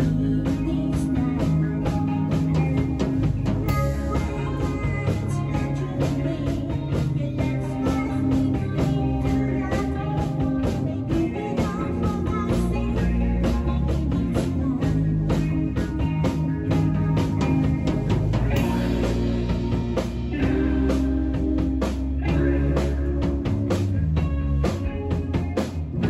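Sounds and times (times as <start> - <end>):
drum kit beating: 0.0 - 26.0
rock band playing live: 0.0 - 26.0.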